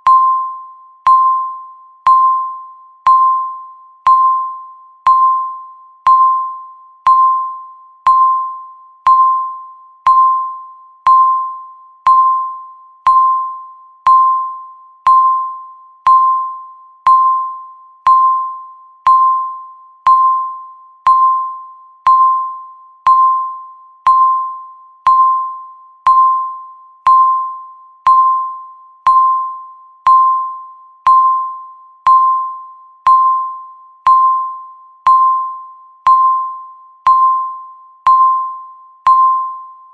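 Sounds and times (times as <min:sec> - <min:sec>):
electronic timer beeps: 0:00.0 - 0:39.9.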